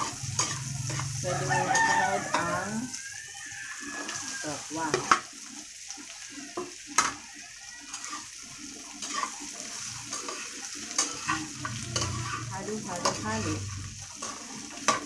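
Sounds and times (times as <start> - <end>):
tofu sizzling in oil: 0.0 - 15.0.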